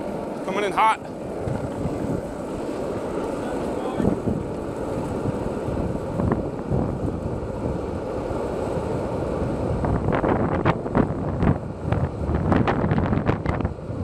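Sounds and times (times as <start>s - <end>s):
wheels rolling on asphalt: 0.0s - 14.0s
wind buffeting microphone: 0.0s - 14.0s.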